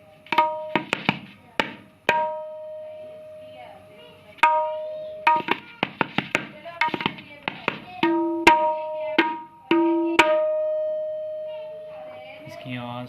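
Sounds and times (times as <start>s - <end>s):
tabla strokes ringing: 0.0s - 12.4s.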